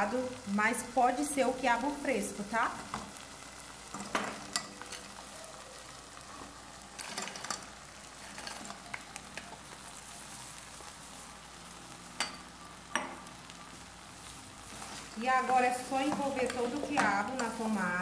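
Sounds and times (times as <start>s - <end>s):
okra sizzling in sauce: 0.0s - 18.0s.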